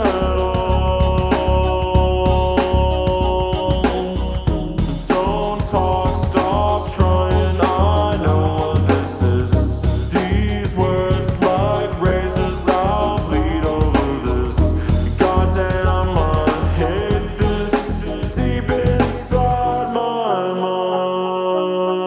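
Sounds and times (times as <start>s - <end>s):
electronic music with heavy bass: 0.0s - 20.2s.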